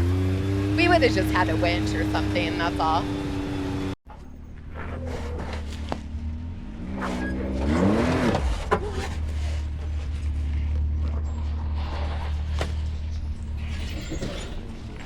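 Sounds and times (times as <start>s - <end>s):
vehicle engine rumbling and revving: 0.0s - 15.0s.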